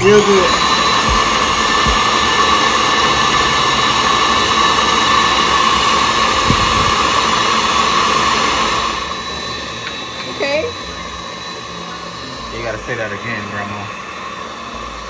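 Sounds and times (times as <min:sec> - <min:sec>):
stand mixer motor whirring: 0:00.0 - 0:15.0.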